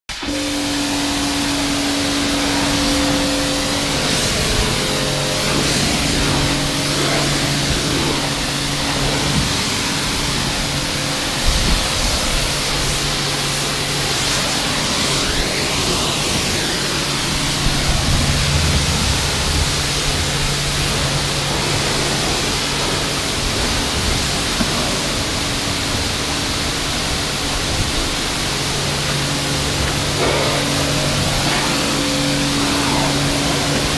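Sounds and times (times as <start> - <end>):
foam lance spraying hiss: 0.1 - 33.9
pressure washer pump humming: 0.1 - 33.9.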